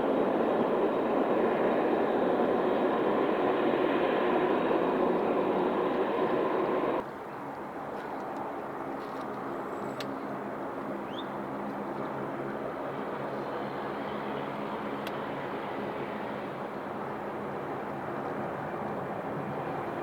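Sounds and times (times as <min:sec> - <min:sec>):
aircraft engine hum: 0:00.0 - 0:07.0, 0:10.1 - 0:20.0
jet engine noise: 0:00.0 - 0:07.1, 0:10.1 - 0:20.0.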